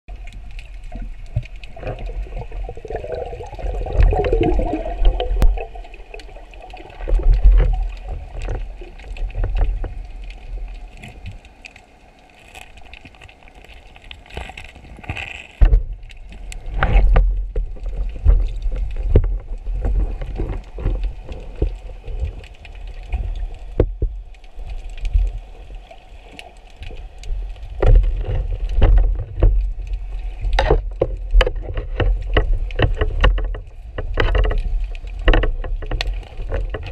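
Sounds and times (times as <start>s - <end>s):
underwater rumble: 0.1s - 36.9s.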